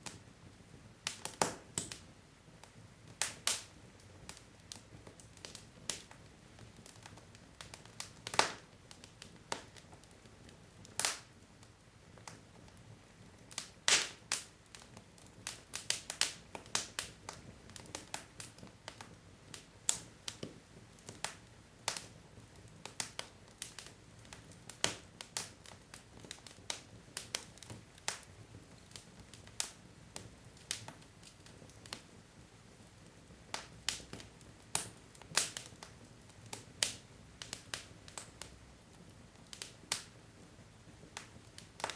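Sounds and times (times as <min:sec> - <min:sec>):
faint hiss of fire: 0:00.0 - 0:41.9
logs crackling and popping: 0:01.0 - 0:41.9.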